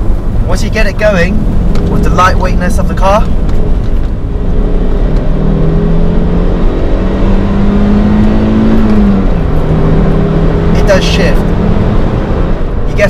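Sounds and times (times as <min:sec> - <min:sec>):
car engine accelerating: 0:00.0 - 0:13.0
tyre and road noise: 0:00.0 - 0:13.0.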